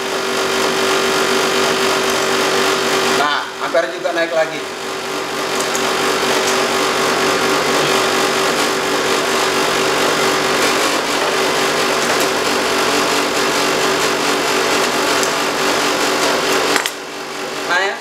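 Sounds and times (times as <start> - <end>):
compressor hum: 0.0 - 18.0.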